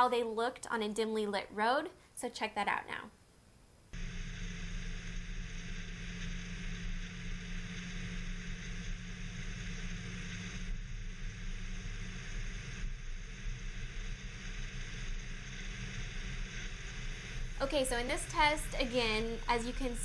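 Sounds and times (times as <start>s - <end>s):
car engine drone: 4.0s - 20.0s.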